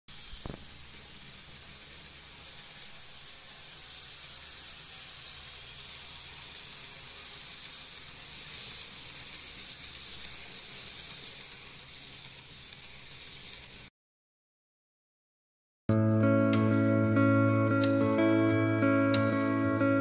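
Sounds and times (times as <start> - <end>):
model train whirring on rails: 0.1 - 13.9, 16.7 - 20.0.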